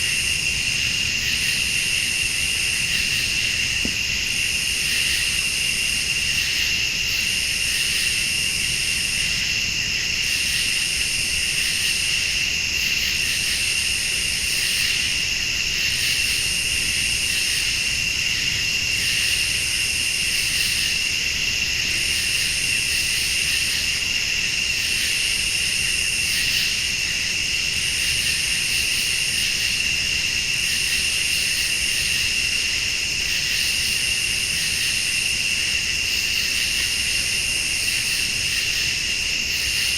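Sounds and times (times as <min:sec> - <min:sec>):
crickets and insects trilling: 0:00.0 - 0:39.9
high-pitched insect call pulsing: 0:00.0 - 0:39.9.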